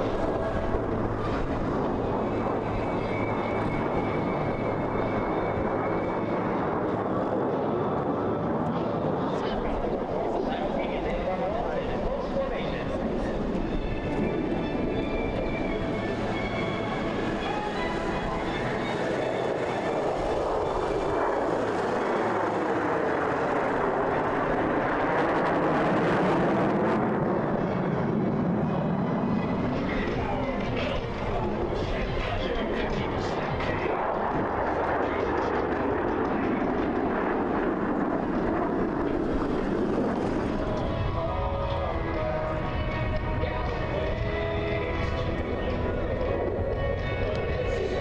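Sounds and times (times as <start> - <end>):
jet engines roaring overhead: 0.0 - 48.0.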